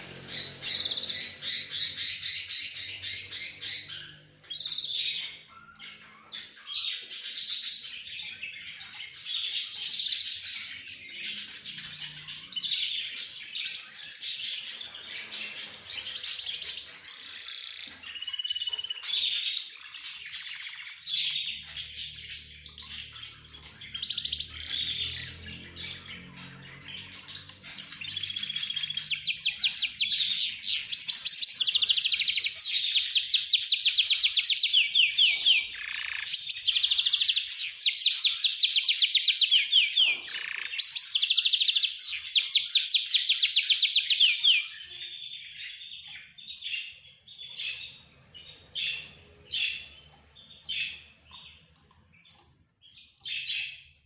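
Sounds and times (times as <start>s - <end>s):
flock of birds chirping: 0.0s - 54.0s.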